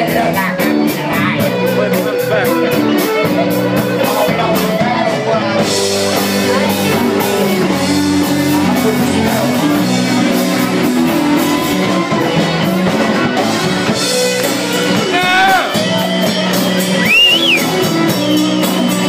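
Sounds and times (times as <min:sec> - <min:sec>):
live band instrumental music: 0:00.0 - 0:19.0.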